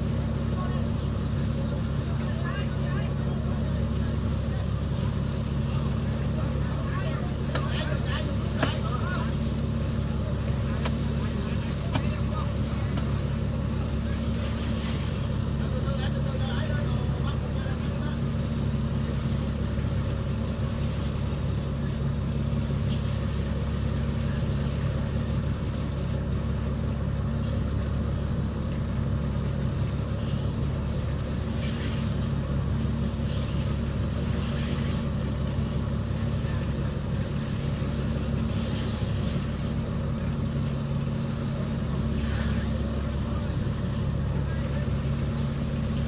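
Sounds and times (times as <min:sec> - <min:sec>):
boat engine running steadily: 0:00.0 - 0:46.0.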